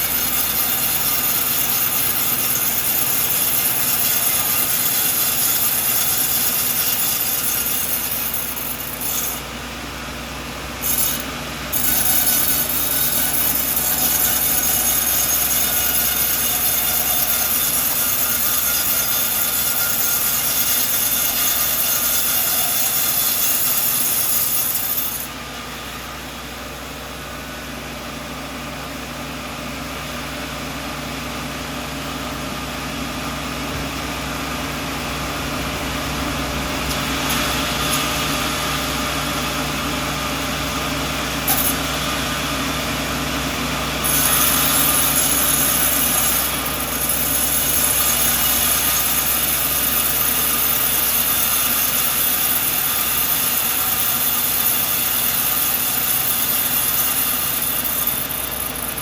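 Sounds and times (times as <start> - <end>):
sawmill saw cutting log: 0.0 - 28.4, 31.0 - 59.0.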